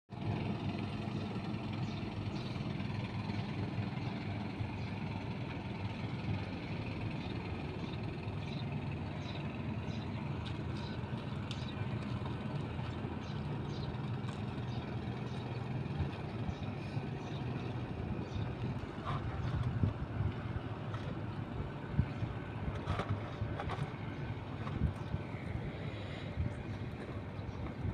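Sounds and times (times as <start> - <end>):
boat engine idling: 0.1 - 27.9.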